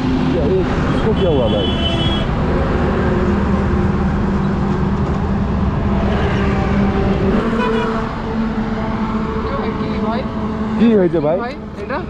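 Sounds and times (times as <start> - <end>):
passing traffic: 0.0 - 12.0.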